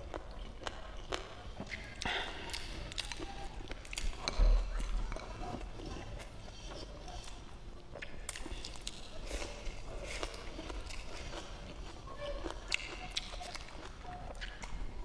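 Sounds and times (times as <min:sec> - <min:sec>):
wet chewing and mouth clicks: 0:00.0 - 0:15.0.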